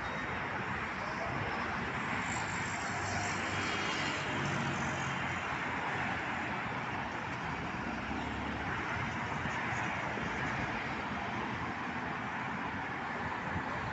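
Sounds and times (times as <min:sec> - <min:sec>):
cars passing on road: 0:00.0 - 0:13.9.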